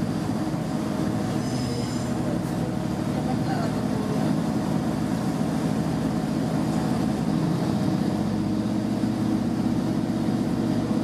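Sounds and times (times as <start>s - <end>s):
diesel railcar engine drone: 0.0s - 11.0s.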